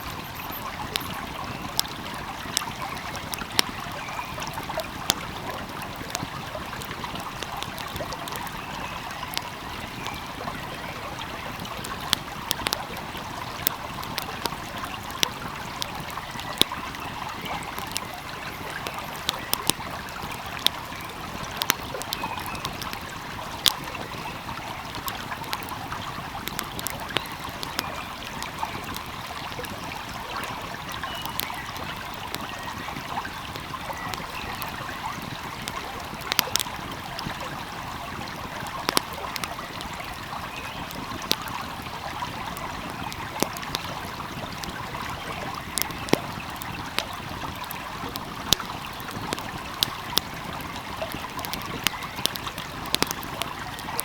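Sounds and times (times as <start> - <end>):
stream flowing: 0.0 - 54.0
wood fire crackling: 0.0 - 54.0.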